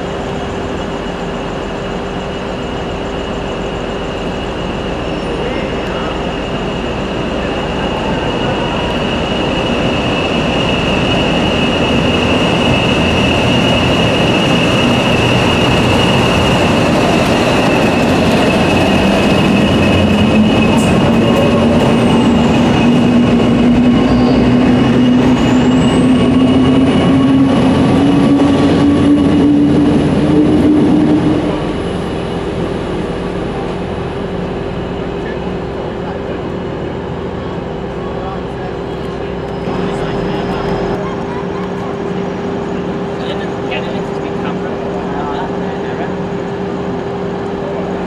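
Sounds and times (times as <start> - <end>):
diesel locomotive engines: 0.0 - 48.0.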